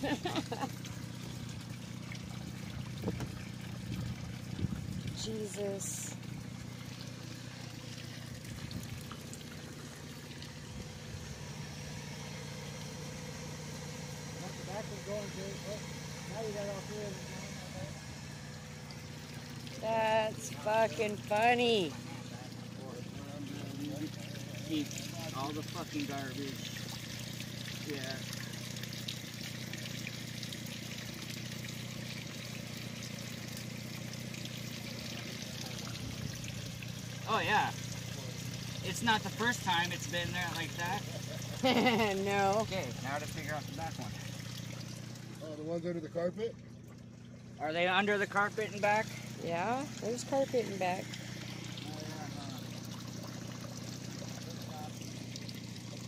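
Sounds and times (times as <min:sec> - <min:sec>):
engine idling: 0:00.0 - 0:56.0
steady low hum: 0:00.0 - 0:56.0
water pouring and trickling: 0:00.0 - 0:56.0.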